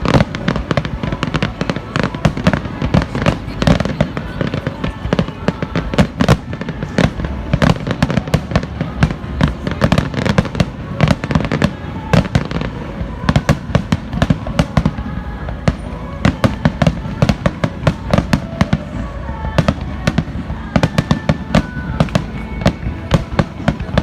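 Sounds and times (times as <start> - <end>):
continuous low rumble: 0.0 - 24.0
fireworks bangs and crackles: 0.0 - 24.0
music playing: 0.0 - 24.0.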